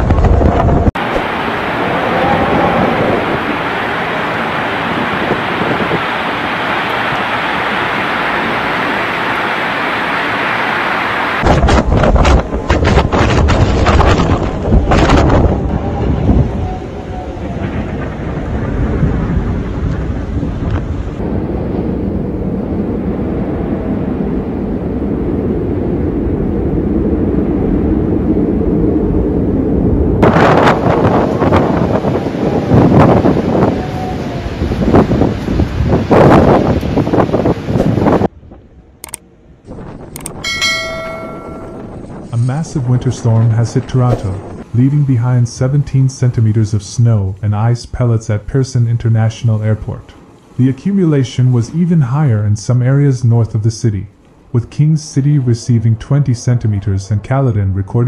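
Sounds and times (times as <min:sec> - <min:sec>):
blizzard wind blowing: 0:00.0 - 0:58.0.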